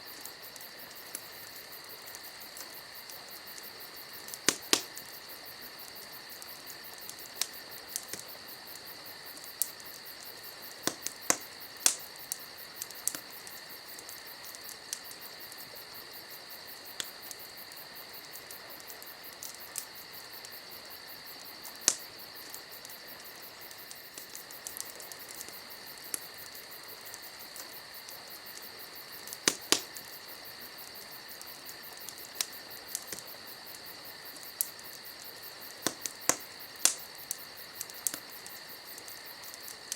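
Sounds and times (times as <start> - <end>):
campfire crackling and popping: 0.0 - 39.9
crickets chirring: 0.0 - 39.9.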